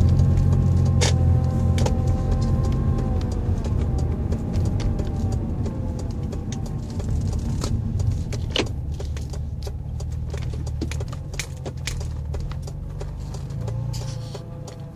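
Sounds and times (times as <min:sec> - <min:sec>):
car engine running: 0:00.0 - 0:14.9
light clicks and rattles: 0:00.0 - 0:14.9.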